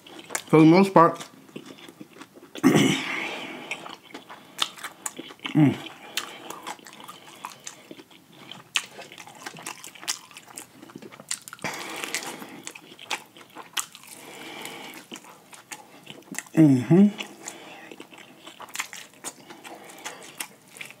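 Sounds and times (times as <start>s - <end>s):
person chewing crispy chicken: 0.0s - 21.0s.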